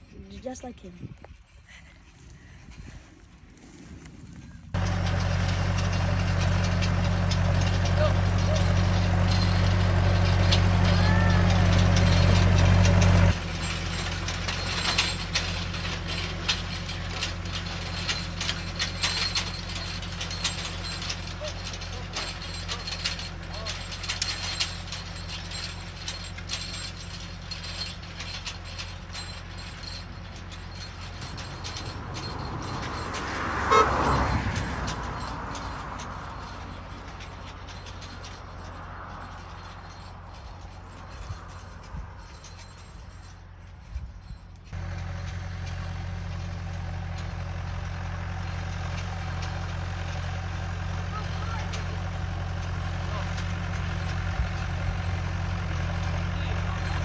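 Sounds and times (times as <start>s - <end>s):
metallic clanking and rattling: 0.0s - 57.0s
tractor engine under load: 0.0s - 57.0s.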